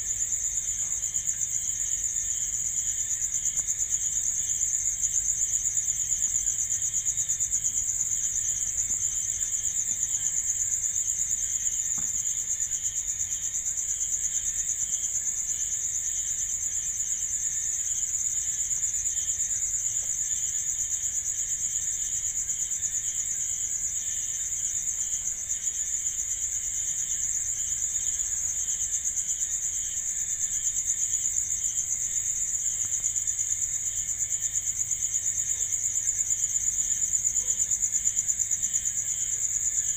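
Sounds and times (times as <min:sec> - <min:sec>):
crickets trilling: 0:00.0 - 0:39.9
low pulsing insect chirp: 0:00.0 - 0:39.9.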